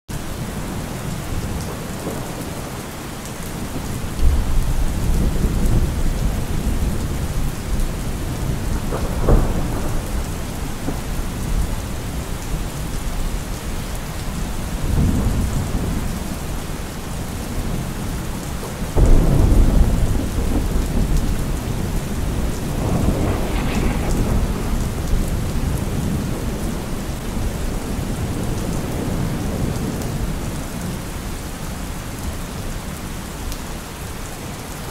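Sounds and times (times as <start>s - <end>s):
steady rain: 0.1s - 34.9s
thunder rumbling: 1.0s - 30.9s.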